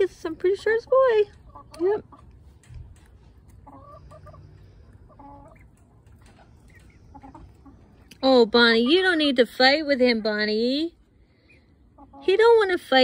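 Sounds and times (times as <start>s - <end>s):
chickens clucking: 0.0s - 12.8s.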